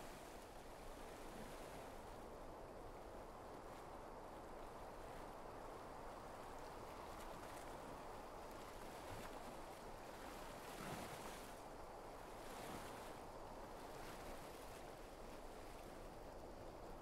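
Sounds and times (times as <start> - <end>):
small waves on a pebble shore: 0.0 - 16.9.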